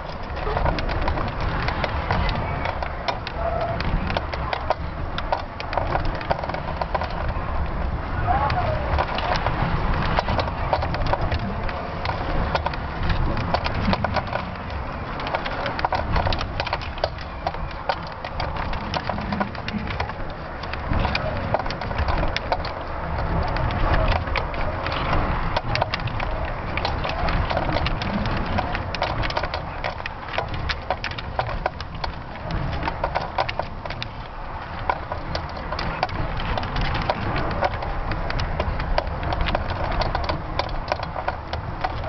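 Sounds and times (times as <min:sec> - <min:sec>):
crackling and ticking: 0:00.0 - 0:42.0
wind rumble on microphone: 0:00.0 - 0:42.0.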